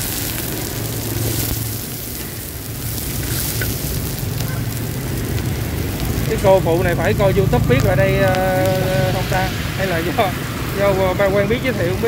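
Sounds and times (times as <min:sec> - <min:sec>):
batter sizzling in pans: 0:00.0 - 0:12.0.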